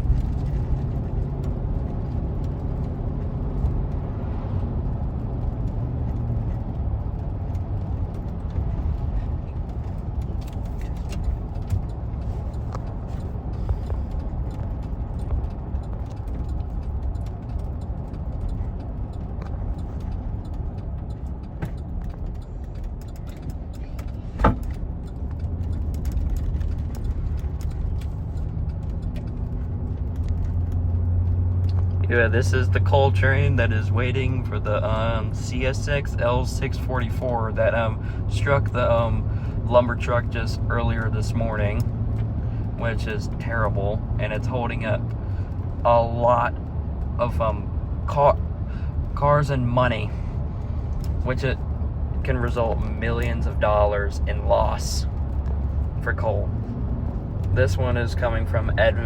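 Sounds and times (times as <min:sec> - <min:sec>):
car interior rumble: 0:00.0 - 0:59.0.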